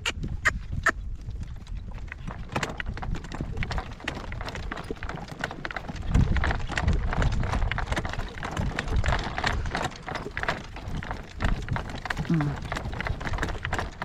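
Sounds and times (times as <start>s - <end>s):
horse hooves trotting: 0.0s - 14.0s.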